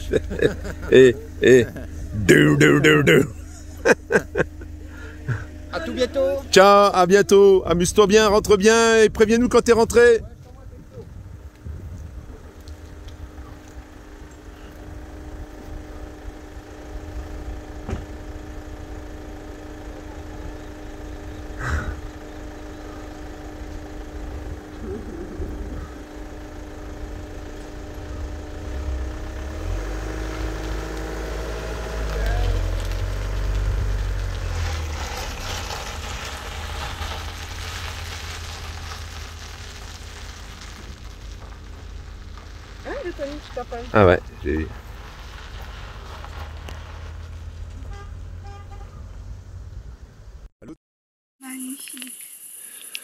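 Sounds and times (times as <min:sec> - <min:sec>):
tyre road noise: 0:00.0 - 0:50.5
vehicle engine idling: 0:00.0 - 0:50.5.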